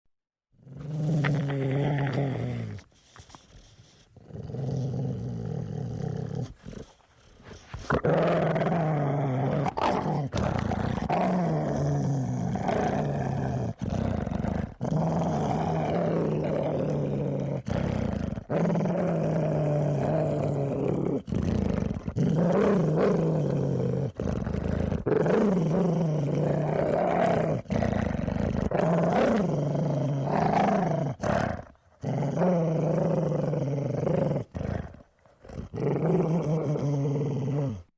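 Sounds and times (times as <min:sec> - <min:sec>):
dog growling: 0:00.6 - 0:37.9.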